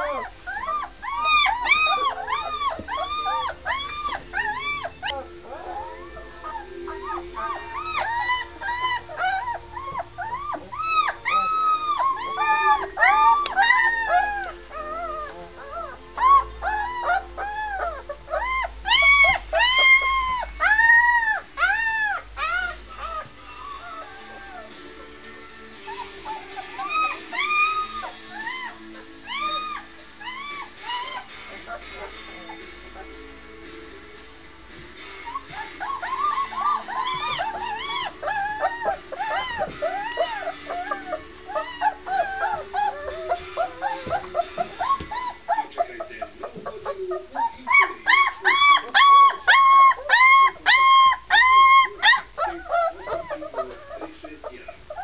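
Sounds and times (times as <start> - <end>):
puppies whining and squealing: 0.0 - 33.8, 34.7 - 55.0.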